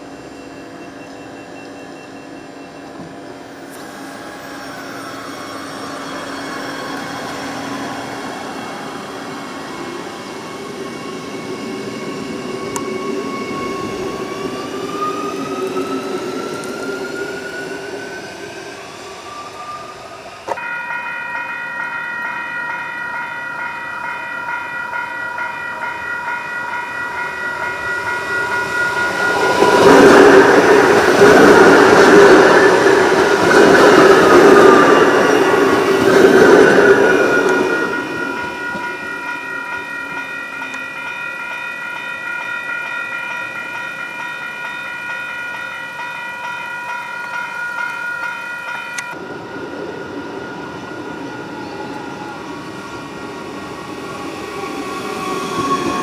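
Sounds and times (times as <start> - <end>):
electric train passing: 0.0 - 56.0
train wheels sliding whine: 0.0 - 56.0.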